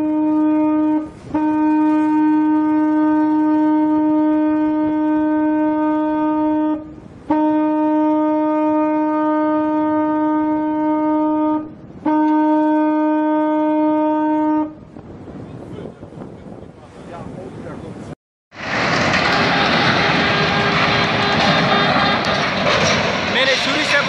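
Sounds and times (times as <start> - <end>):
ship's horn blasts: 0.0 - 16.6, 19.2 - 22.6.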